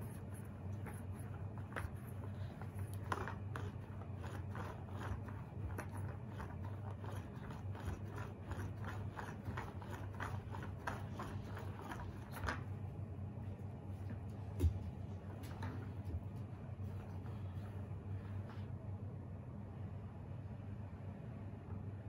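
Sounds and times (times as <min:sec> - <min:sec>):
lint roller crackling on rug: 0:00.0 - 0:18.7
low steady hum: 0:00.0 - 0:22.0.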